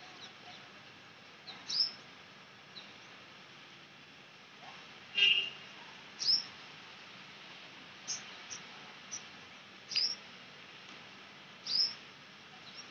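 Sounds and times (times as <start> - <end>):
faint outdoor hiss: 0.0 - 12.9.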